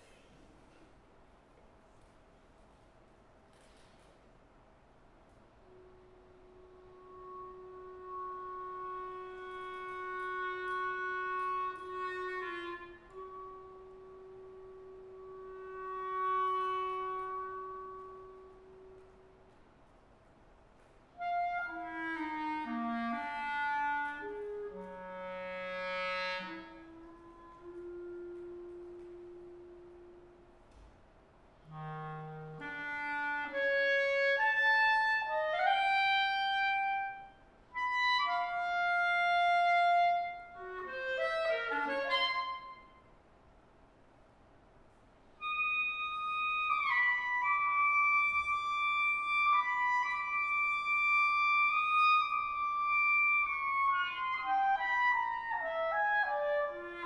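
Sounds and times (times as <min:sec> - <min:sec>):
clarinet solo: 0:05.6 - 0:19.9, 0:20.8 - 0:31.0, 0:31.6 - 0:43.2, 0:45.3 - 0:57.0.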